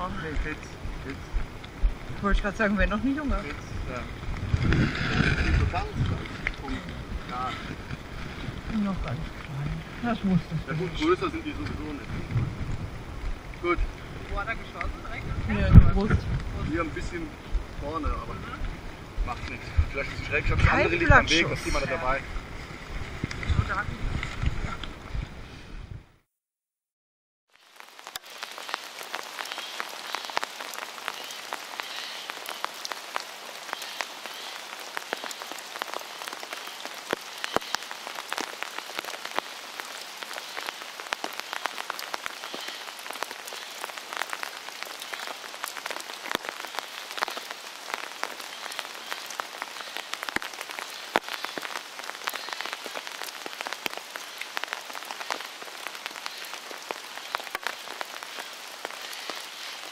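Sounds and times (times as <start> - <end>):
rain on umbrella and leaves: 0.0 - 26.0, 27.5 - 59.9.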